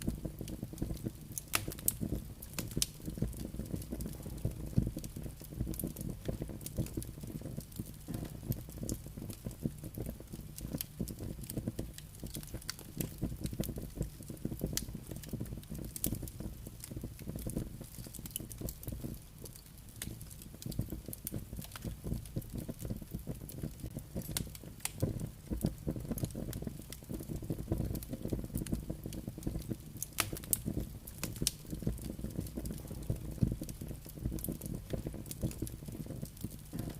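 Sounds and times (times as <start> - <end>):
campfire crackling and popping: 0.0 - 36.9
low rumble of flames: 0.0 - 36.9.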